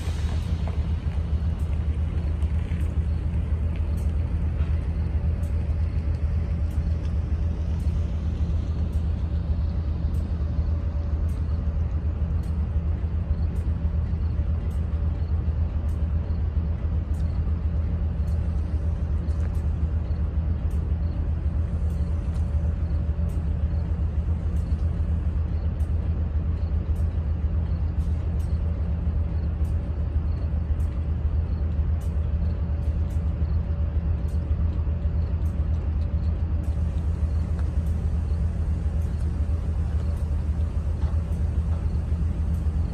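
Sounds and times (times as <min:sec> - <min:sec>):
locomotive engine idling: 0:00.0 - 0:42.9.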